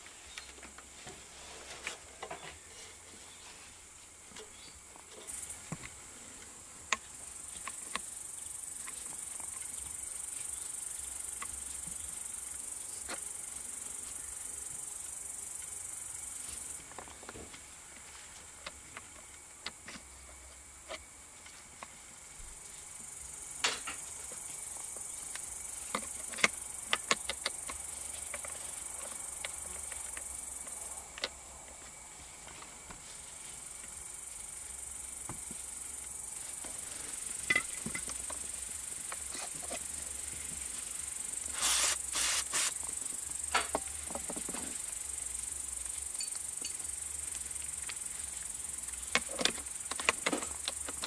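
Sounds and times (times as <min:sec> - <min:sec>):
insects chirring: 0:01.9 - 0:51.0.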